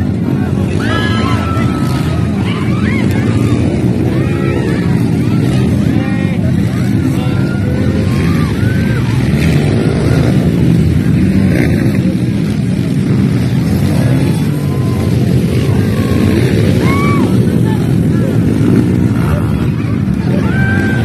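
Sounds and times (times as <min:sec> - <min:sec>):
dirt bike engines: 0:00.0 - 0:21.0
faint voices: 0:00.0 - 0:21.0.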